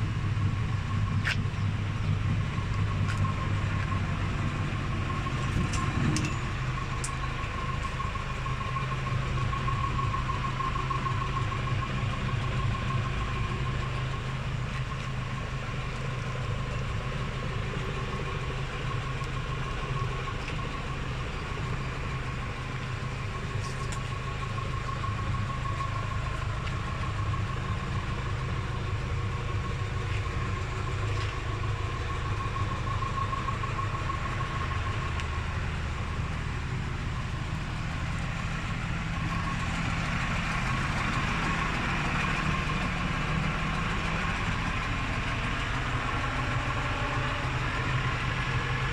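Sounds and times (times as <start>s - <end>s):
baler high whine: 0.0s - 48.9s
tractor engine running: 0.0s - 48.9s.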